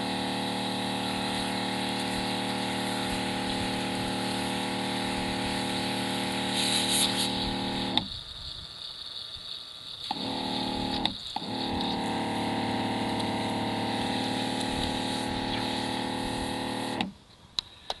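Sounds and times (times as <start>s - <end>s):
water spraying: 0.0s - 17.1s
electric pump humming: 0.0s - 17.2s.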